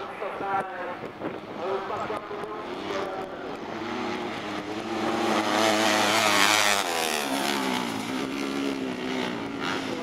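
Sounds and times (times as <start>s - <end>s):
racing buggy engines revving: 0.0s - 10.0s.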